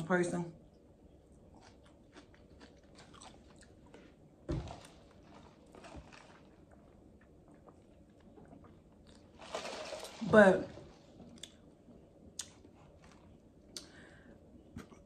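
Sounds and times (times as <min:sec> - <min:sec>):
chewing fries: 0:00.7 - 0:10.2, 0:10.9 - 0:14.1.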